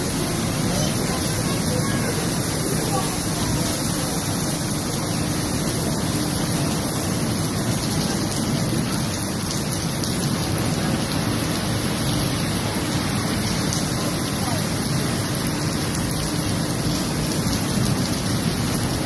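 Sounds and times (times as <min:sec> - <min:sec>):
heavy rain: 0:00.0 - 0:19.0
rushing floodwater: 0:00.0 - 0:19.0.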